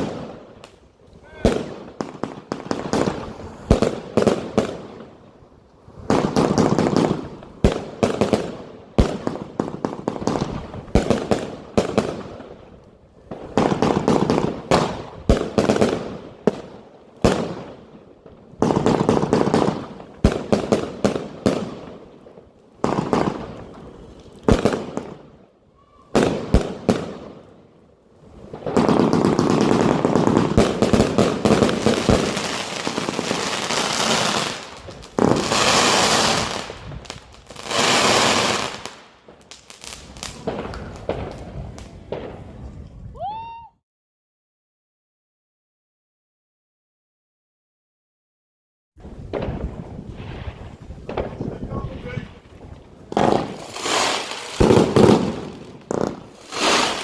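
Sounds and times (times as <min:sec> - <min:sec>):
loud firework breaks with crackle: 0:00.0 - 0:05.2, 0:06.0 - 0:27.6, 0:28.3 - 0:42.6, 0:49.1 - 0:57.0
fireworks launches: 0:00.0 - 0:05.3, 0:05.9 - 0:25.3, 0:28.2 - 0:43.6, 0:49.0 - 0:57.0.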